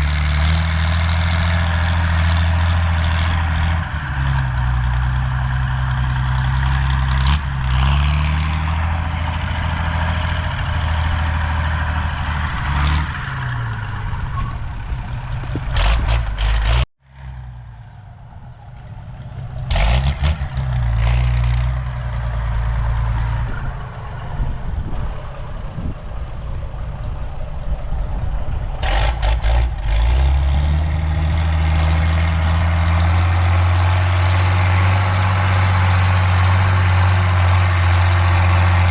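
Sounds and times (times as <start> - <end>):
diesel tractor engine revving: 0.0 - 38.9.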